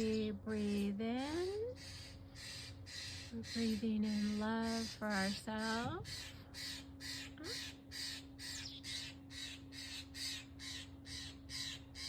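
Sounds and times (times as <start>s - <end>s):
blue jay harsh raspy calls: 0.0s - 12.0s.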